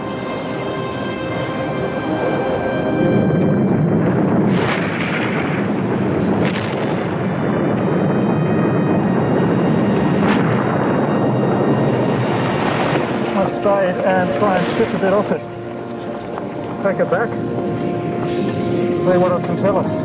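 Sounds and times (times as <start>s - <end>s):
volcanic explosive blasts: 0.0s - 20.0s
volcano deep rumble: 0.0s - 20.0s.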